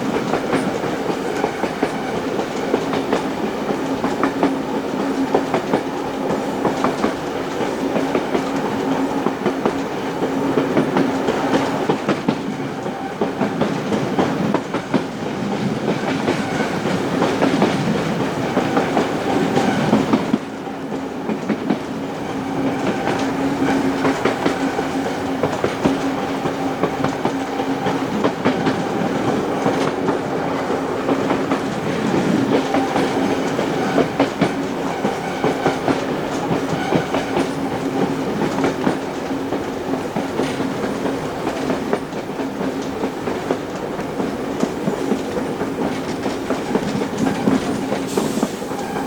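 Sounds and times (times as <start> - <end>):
train hum and rumble: 0.0 - 49.0
train wheels clicking on track: 0.0 - 49.0.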